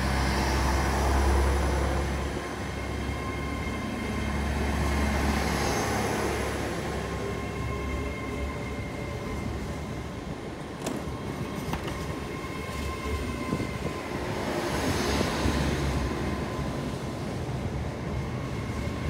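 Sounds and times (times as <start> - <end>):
train rumbling: 0.0 - 19.0
train whine: 0.0 - 19.0.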